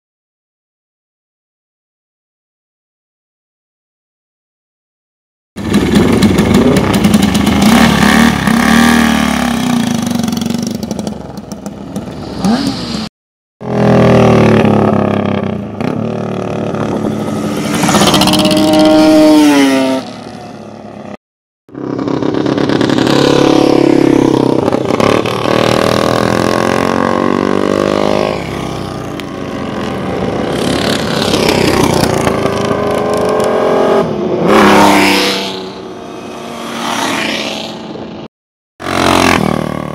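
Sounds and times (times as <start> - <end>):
motorcycle engines revving: 5.6 - 39.9.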